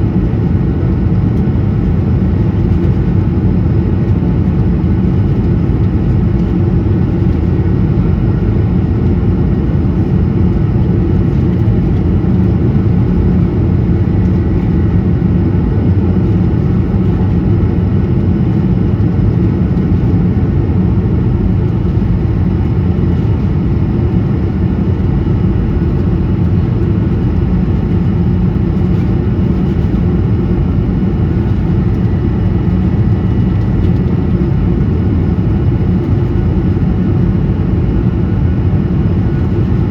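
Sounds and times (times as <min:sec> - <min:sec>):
aircraft cabin engine rush: 0:00.0 - 0:39.9.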